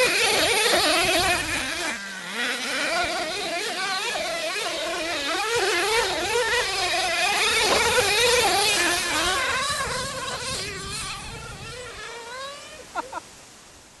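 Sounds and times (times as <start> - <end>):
small engine revving: 0.0 - 13.2.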